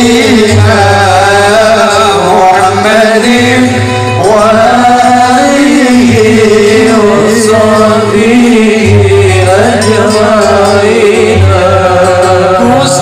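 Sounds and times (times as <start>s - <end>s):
instrumental accompaniment: 0.0s - 13.0s
man singing through loudspeakers: 0.0s - 13.0s.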